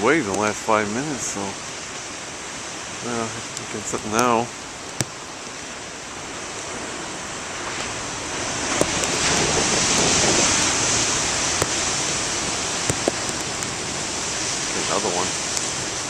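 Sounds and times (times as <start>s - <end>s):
ocean wave breaking: 0.0s - 16.0s.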